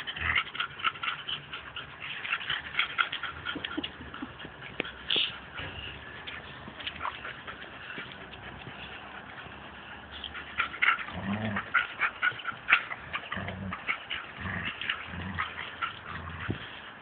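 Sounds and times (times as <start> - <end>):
claws clicking on paving: 0.0 - 16.8
dogs growling: 0.0 - 17.0.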